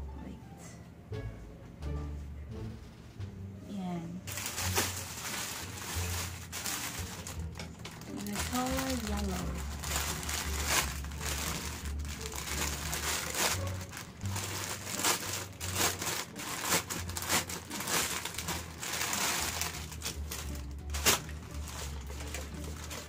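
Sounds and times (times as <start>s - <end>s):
quiet background music: 0.0s - 23.0s
plastic packaging crinkling: 4.3s - 23.0s.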